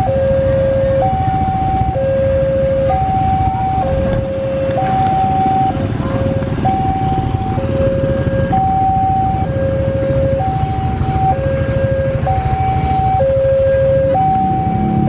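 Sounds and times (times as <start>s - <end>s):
two-tone crossing alarm: 0.0s - 15.0s.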